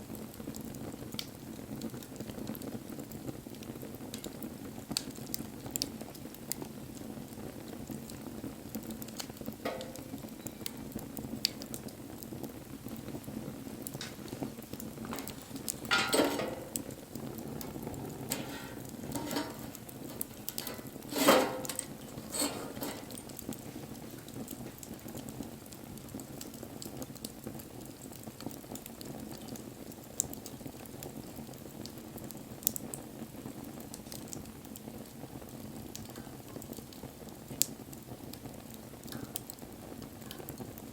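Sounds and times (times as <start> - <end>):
fire crackling and popping: 0.0 - 40.9
bonfire rushing: 0.2 - 40.9.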